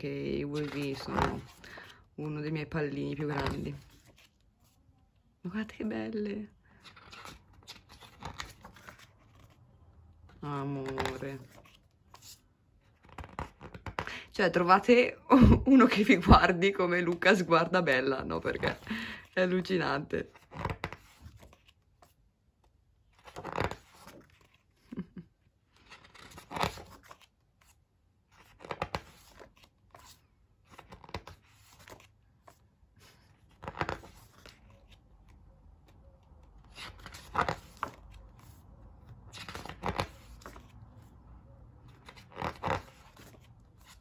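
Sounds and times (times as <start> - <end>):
book pages turning: 0.0 - 5.2, 6.6 - 14.1, 20.3 - 44.0.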